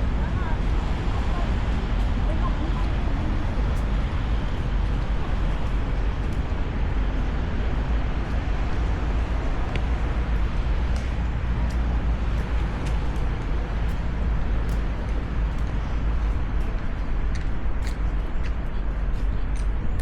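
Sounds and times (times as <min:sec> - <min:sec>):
deep low rumble: 0:00.0 - 0:20.0.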